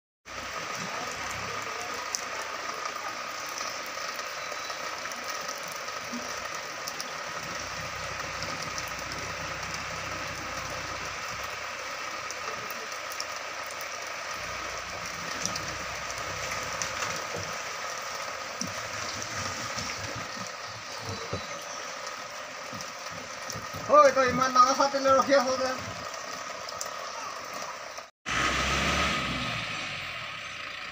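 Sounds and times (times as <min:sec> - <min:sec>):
rain hiss: 0:00.3 - 0:30.9
truck engine rumble: 0:00.3 - 0:30.9.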